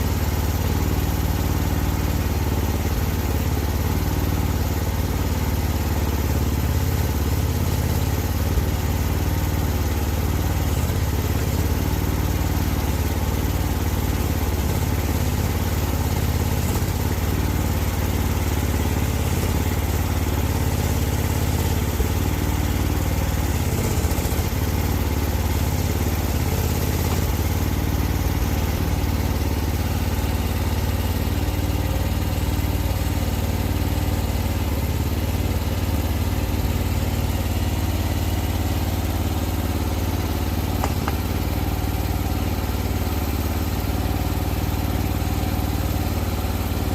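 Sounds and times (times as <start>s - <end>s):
excavator engine running: 1.2s - 46.9s.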